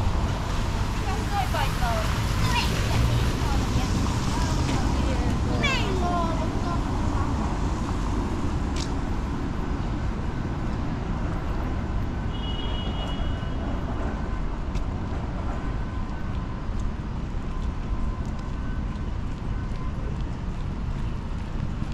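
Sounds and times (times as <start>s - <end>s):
traffic rumble on wet roads: 0.0s - 21.9s.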